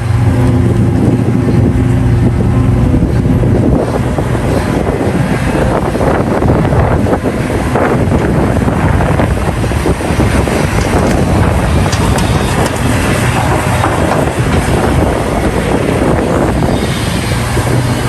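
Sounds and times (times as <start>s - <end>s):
excavator diesel engine running: 0.0s - 18.0s
wind buffeting microphone: 0.0s - 18.0s.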